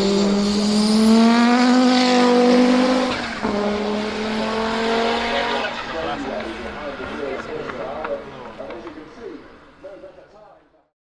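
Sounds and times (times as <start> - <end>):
car engine accelerating hard: 0.0 - 9.4.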